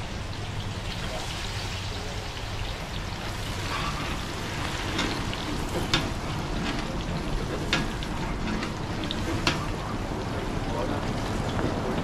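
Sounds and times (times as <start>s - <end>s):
chips sizzling in hot oil: 0.0s - 11.8s.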